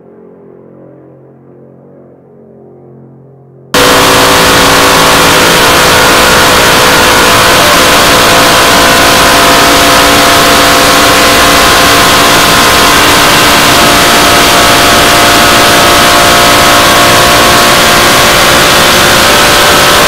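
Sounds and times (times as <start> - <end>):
supercharged engine running hard: 3.8 - 20.0.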